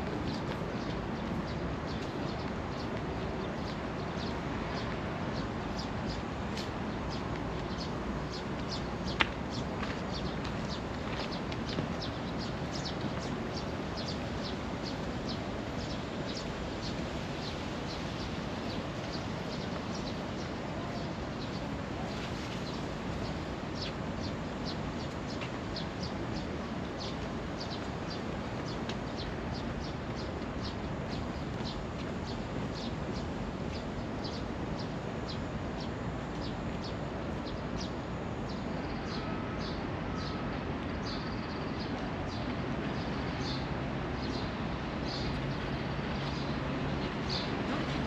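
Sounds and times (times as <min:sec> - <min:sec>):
steady background noise: 0:00.0 - 0:48.0.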